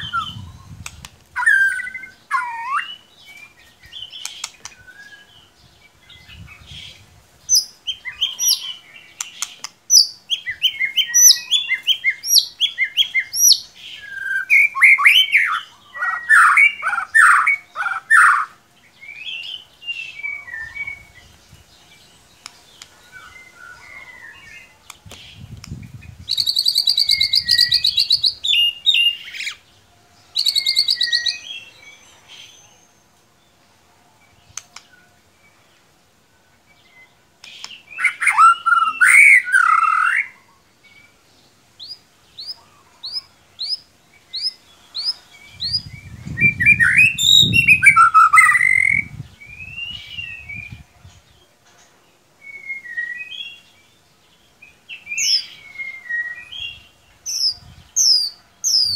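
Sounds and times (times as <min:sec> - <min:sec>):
songbird trills and whistles: 0:00.0 - 0:21.4, 0:22.4 - 0:29.6, 0:30.3 - 0:33.0, 0:37.4 - 0:41.1, 0:41.8 - 0:50.9, 0:52.4 - 0:53.8, 0:54.9 - 0:58.9.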